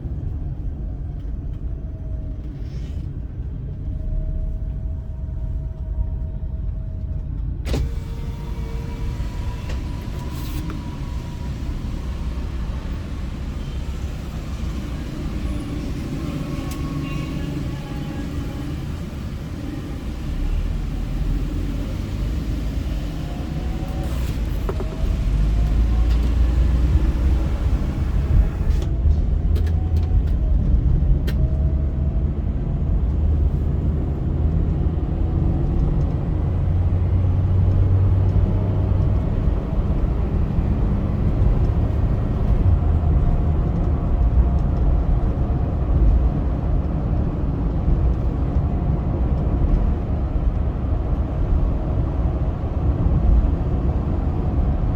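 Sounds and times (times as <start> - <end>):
engine and tyres rumbling: 0.0 - 54.9.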